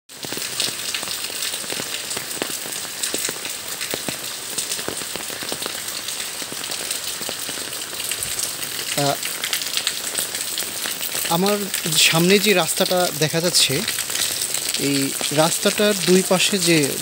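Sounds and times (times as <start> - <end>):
steady rain hissing: 0.1 - 17.0.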